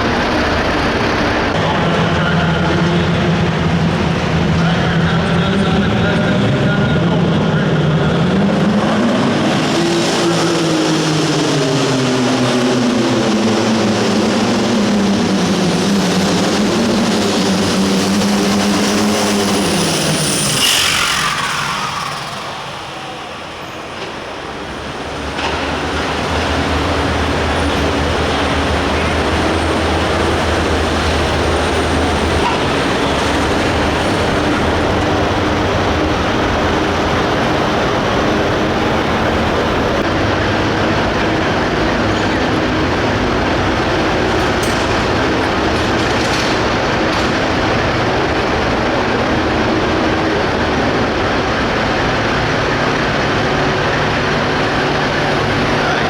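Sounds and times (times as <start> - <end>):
tractor diesel engine roaring: 0.0 - 56.0.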